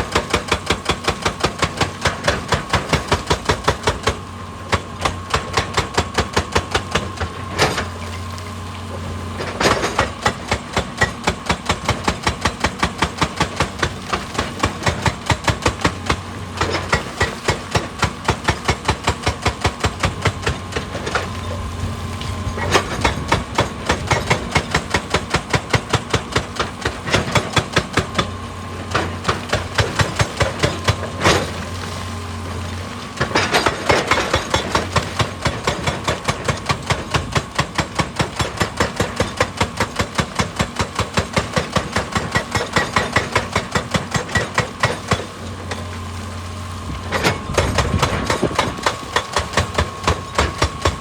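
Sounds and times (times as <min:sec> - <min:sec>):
diesel engine running: 0:00.0 - 0:51.0
hydraulic rock breaker hammering rock: 0:00.0 - 0:51.0.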